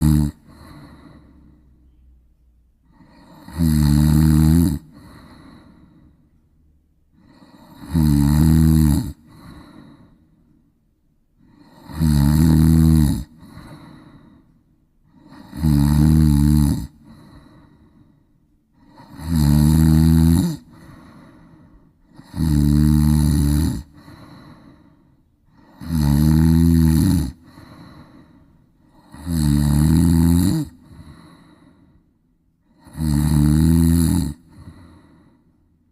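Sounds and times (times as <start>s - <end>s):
cat snoring: 0.0s - 1.8s, 2.8s - 6.1s, 7.2s - 10.2s, 11.4s - 14.4s, 15.1s - 18.0s, 18.8s - 24.9s, 25.5s - 31.8s, 32.6s - 35.4s.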